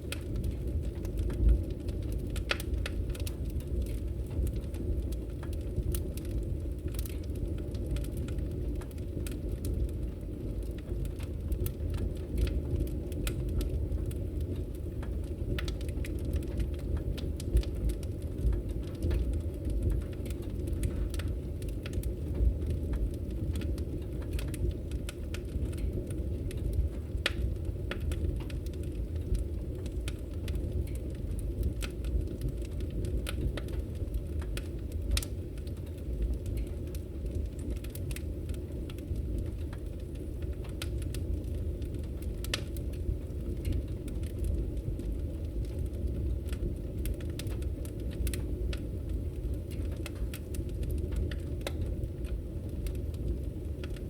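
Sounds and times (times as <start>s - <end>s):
fire crackles and pops: 0.0s - 54.0s
fire flames rumbling: 0.0s - 54.0s.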